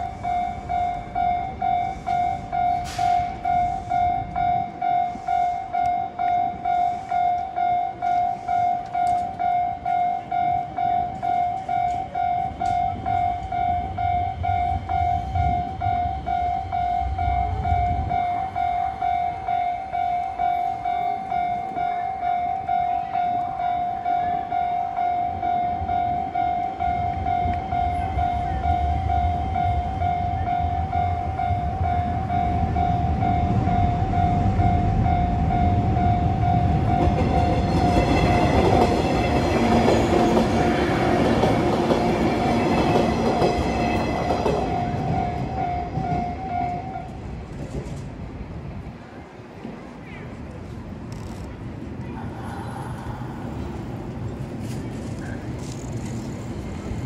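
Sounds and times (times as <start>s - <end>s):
level crossing alarm bell dinging: 0.0s - 47.1s
electric train passing: 0.0s - 57.0s
train rumbling overhead: 0.0s - 57.0s.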